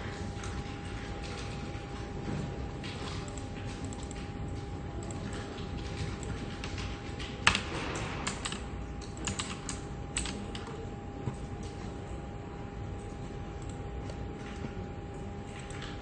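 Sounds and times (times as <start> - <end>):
office hum: 0.0 - 16.0.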